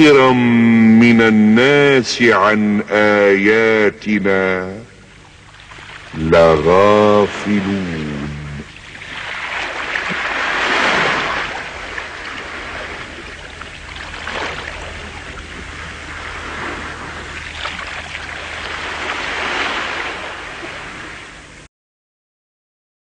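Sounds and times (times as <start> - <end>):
sea waves surging: 0.0 - 21.7.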